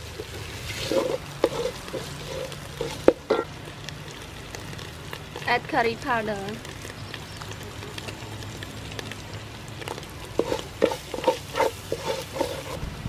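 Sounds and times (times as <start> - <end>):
paste sizzling in oil: 0.0 - 12.8.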